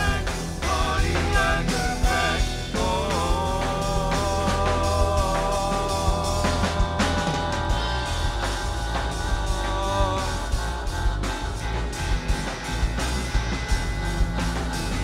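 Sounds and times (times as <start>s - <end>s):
live rock band playing: 0.0s - 15.0s
wavering lead line: 0.0s - 15.0s.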